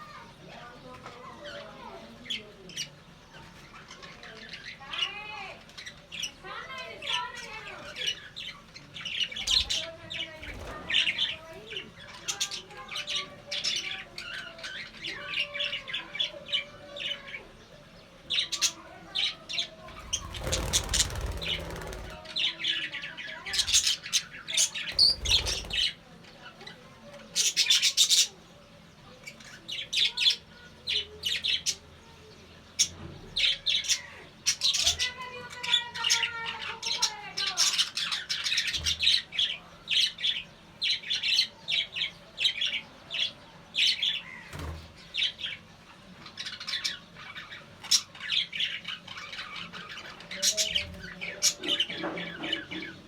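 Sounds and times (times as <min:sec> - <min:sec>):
budgerigars chirping and squawking: 0:00.0 - 0:53.0.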